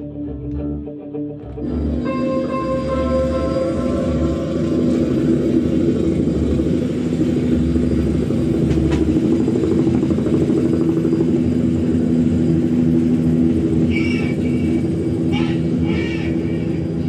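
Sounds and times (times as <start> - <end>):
band droning low chord: 0.0 - 17.0
helicopter rotor flutter: 1.6 - 17.0.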